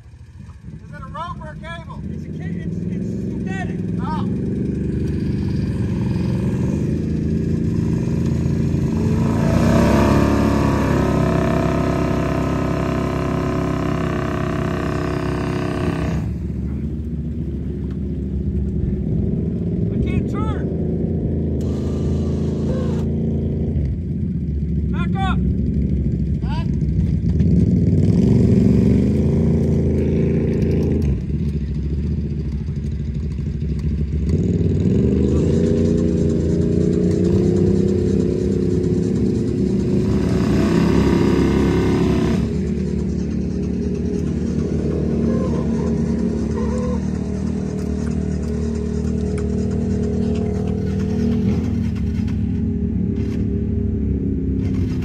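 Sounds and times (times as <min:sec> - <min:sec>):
engine running under load: 0:00.0 - 0:55.0.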